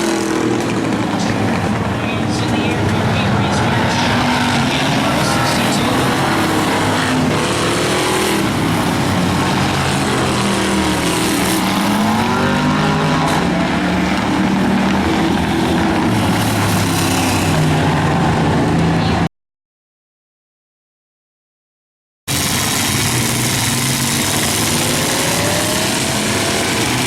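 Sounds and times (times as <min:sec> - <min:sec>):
race car engines: 0:00.0 - 0:19.3, 0:22.3 - 0:27.0.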